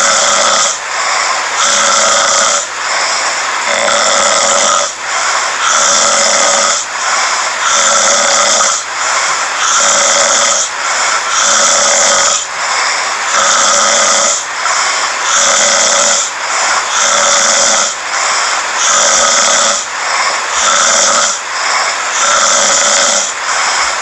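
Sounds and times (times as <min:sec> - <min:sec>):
man snoring loudly: 0:00.0 - 0:24.0.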